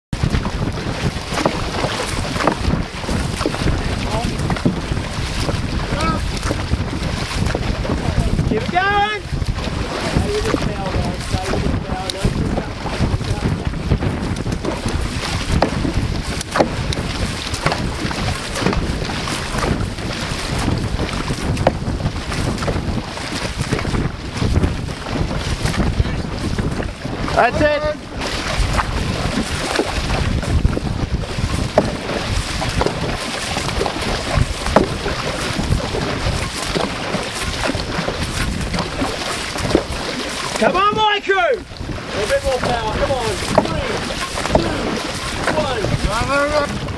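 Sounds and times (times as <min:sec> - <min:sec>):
paddles pulling through water: 0:00.1 - 0:46.9
wind buffeting microphone: 0:00.1 - 0:46.9.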